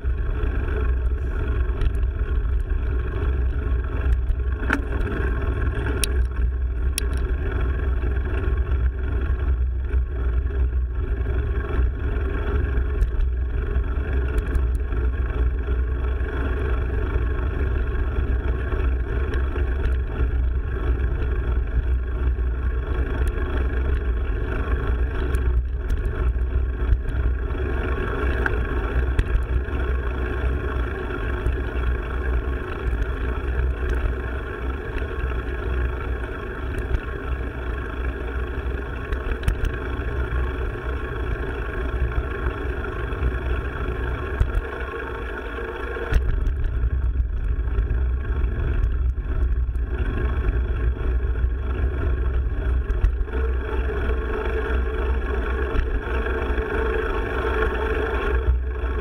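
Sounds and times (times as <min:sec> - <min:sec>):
bike tires rolling on trail: 0:00.0 - 0:59.0
wind rumble on microphone: 0:00.0 - 0:59.0.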